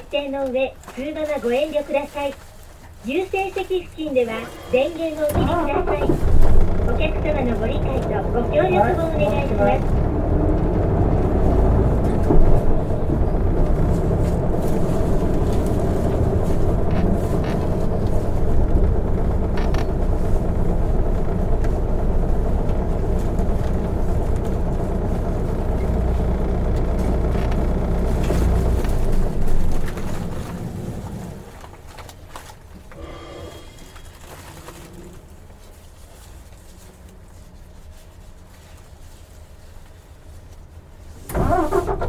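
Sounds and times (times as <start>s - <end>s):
bus engine and road rumble: 0.0s - 33.1s, 33.8s - 42.0s.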